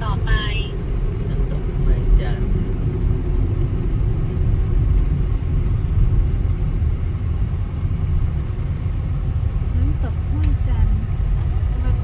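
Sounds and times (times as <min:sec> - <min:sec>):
car driving on road: 0:00.0 - 0:12.0.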